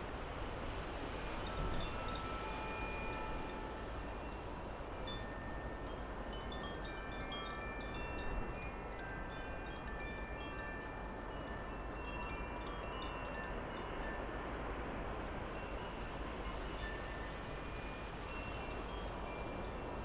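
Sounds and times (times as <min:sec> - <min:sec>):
outdoor air hiss: 0:00.0 - 0:20.0
wind chimes ringing: 0:01.1 - 0:20.0.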